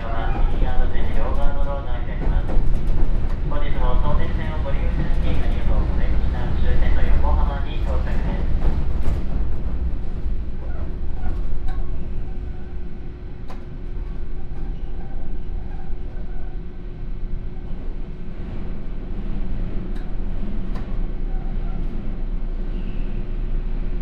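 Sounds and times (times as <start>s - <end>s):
rail clicks: 0.0s - 23.2s
train wheels rumbling on track: 0.0s - 24.0s.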